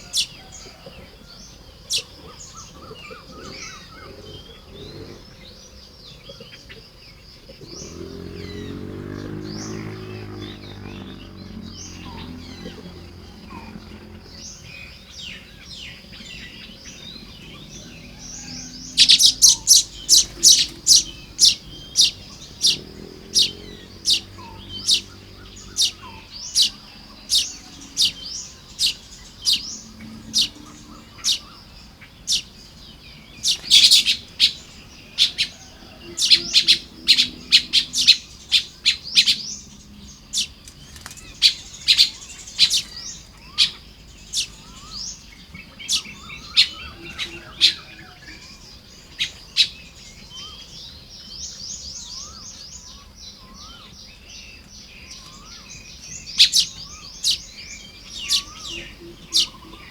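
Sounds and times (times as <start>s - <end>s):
weaver birds chattering: 0.0s - 59.9s.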